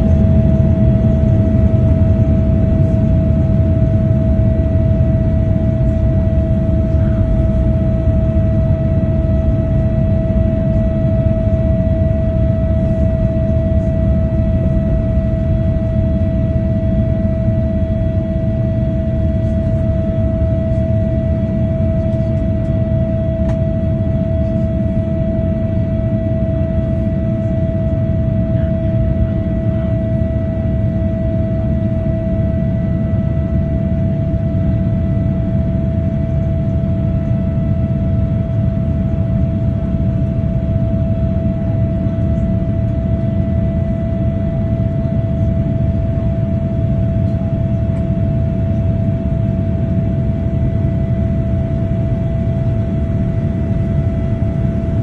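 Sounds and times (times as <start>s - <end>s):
constant hum: 0.0s - 55.0s.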